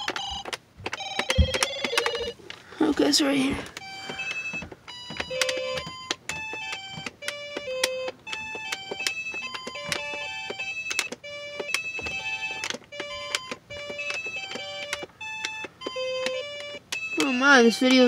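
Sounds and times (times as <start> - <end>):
toy laptop electronic beep melody: 0.0 - 2.4, 3.8 - 18.0.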